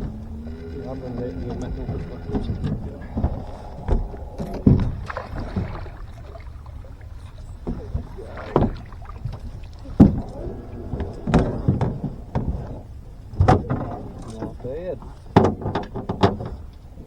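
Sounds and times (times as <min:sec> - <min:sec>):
steady low rumble: 0:00.0 - 0:14.1
low thumps and knocks on boat: 0:00.0 - 0:17.0.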